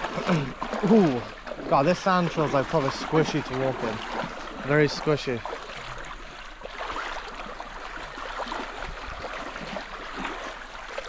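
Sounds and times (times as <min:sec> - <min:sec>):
feet squishing in wet sand: 0:00.0 - 0:11.0
seawater sloshing around feet: 0:00.0 - 0:11.0.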